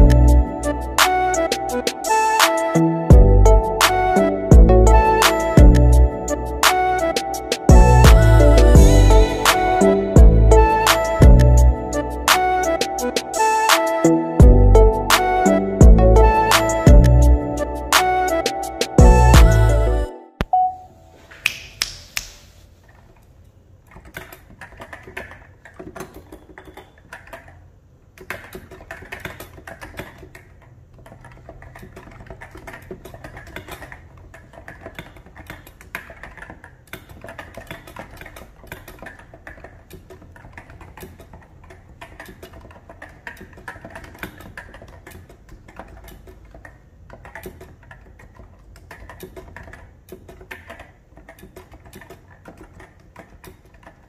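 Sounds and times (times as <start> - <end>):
keyboard typing: 0.0 - 20.8, 21.7 - 54.0.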